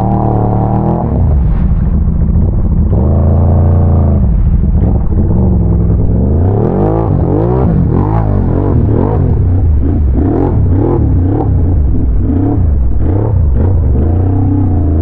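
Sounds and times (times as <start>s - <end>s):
atv engine revving: 0.0s - 1.4s, 2.2s - 15.0s.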